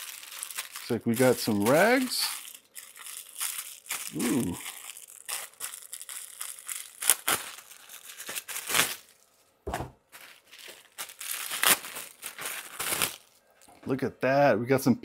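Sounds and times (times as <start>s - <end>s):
packaging tearing: 0.0s - 9.2s, 10.1s - 13.4s
packaging crinkling and rustling: 0.0s - 13.7s.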